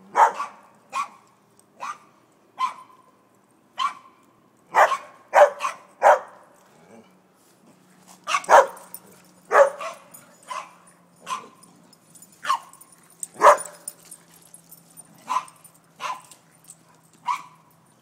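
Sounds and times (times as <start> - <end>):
dogs play-barking: 0.0 - 3.0, 4.7 - 17.9.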